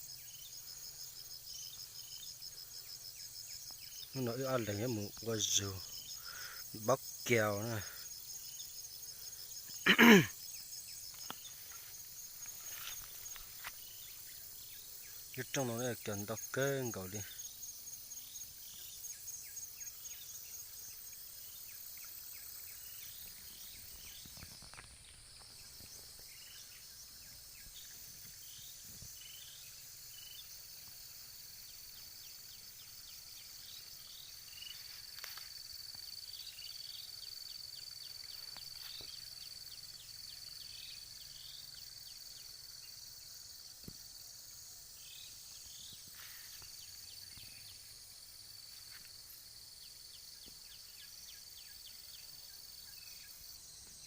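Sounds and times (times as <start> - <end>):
insect buzzing and trilling: 0.0 - 54.0.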